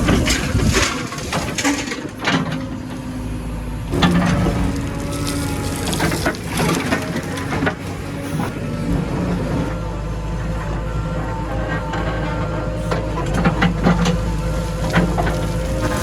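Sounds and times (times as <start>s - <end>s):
metal clanks and crunching knocks: 0.0s - 9.8s, 10.6s - 16.0s
heavy machinery engine running: 0.0s - 16.0s.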